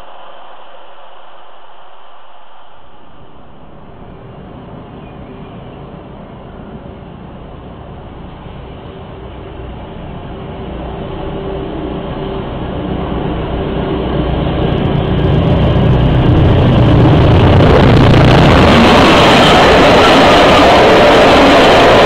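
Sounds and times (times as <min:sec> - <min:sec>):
diesel train passing: 0:00.0 - 0:22.0
train wheels on rails: 0:00.0 - 0:22.0.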